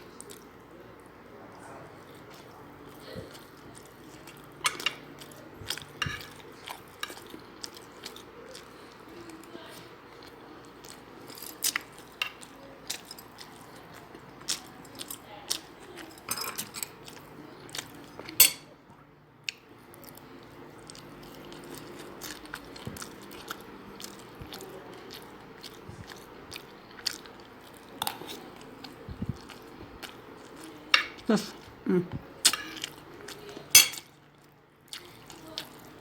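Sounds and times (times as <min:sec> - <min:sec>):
person chewing food: 0:00.0 - 0:01.1, 0:01.9 - 0:18.4, 0:19.4 - 0:36.0.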